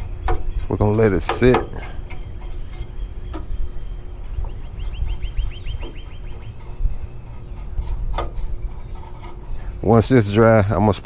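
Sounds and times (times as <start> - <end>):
bird trilling: 0.0 - 9.9
steady low rumble: 0.0 - 11.0.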